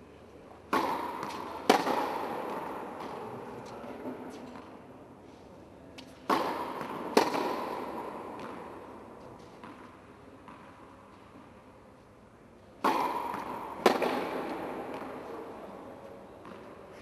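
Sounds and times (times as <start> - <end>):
tennis ball impacts: 0.7 - 4.8, 6.0 - 11.6, 12.8 - 17.0.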